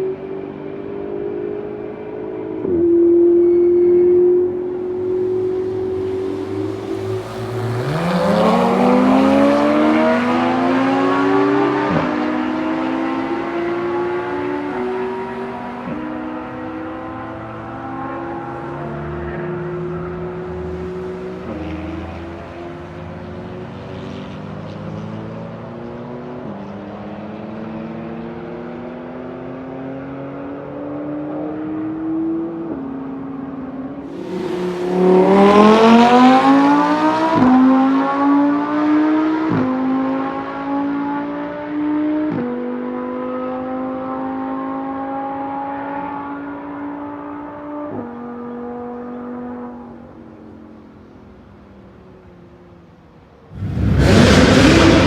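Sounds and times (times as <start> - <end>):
car engine accelerating: 0.7 - 50.8, 53.5 - 55.0.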